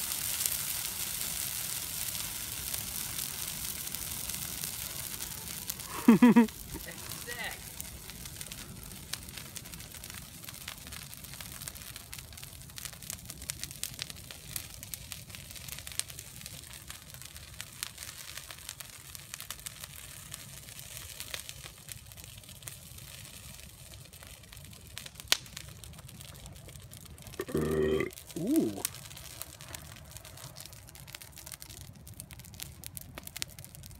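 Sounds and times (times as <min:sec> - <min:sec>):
fire crackling and popping: 0:00.0 - 0:33.9.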